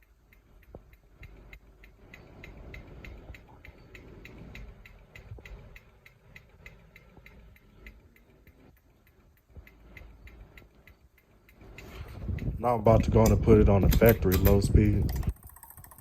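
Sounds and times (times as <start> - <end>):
ceiling fan motor rumble: 0.0 - 16.0
rapid even ticking: 0.0 - 16.0.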